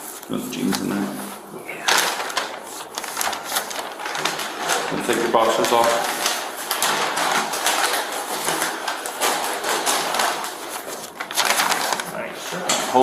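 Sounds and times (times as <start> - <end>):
clothing rustling and scraping: 0.0 - 13.0.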